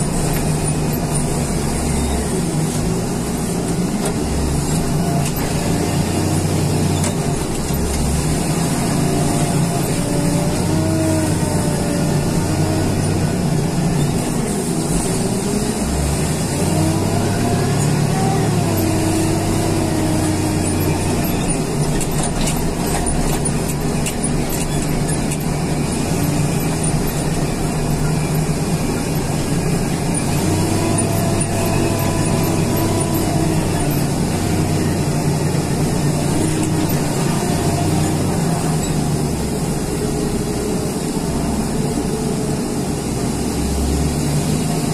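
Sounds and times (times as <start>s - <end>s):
diesel engine under load: 0.0s - 44.9s.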